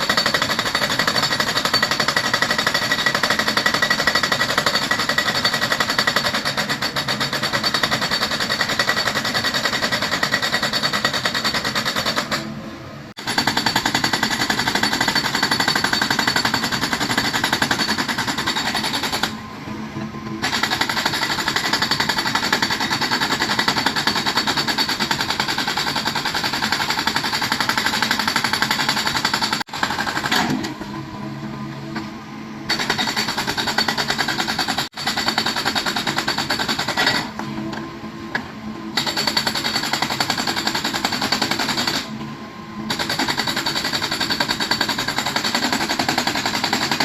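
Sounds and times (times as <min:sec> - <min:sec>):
hydraulic breaker hammering rock: 0:00.0 - 0:12.5, 0:13.2 - 0:19.4, 0:20.4 - 0:30.8, 0:32.7 - 0:37.4, 0:39.0 - 0:42.1, 0:42.9 - 0:47.0.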